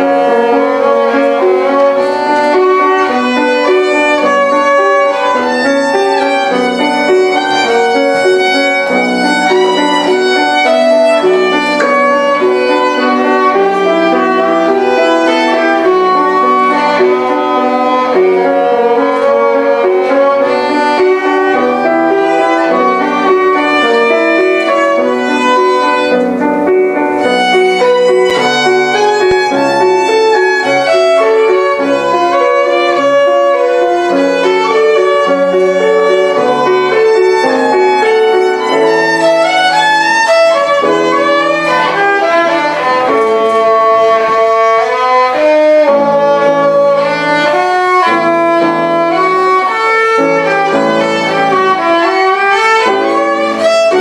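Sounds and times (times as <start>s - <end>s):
violin melody: 0.0s - 54.0s.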